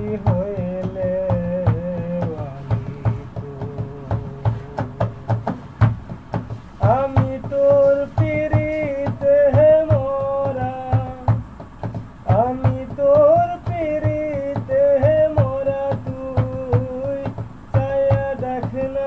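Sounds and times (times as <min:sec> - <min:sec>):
man singing unaccompanied: 0:00.0 - 0:19.0
steady knocking beat: 0:00.0 - 0:19.0.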